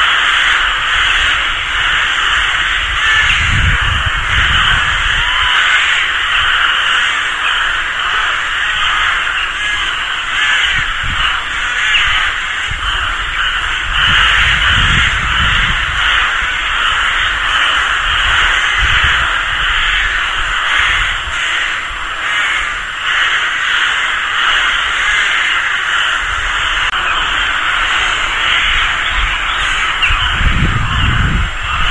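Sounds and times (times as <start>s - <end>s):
rooks cawing: 0.0s - 31.9s.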